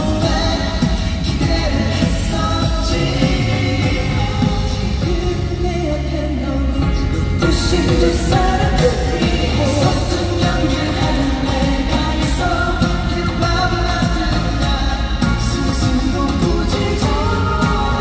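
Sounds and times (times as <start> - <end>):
man singing into microphone: 0.0 - 18.0
pop backing track: 0.0 - 18.0.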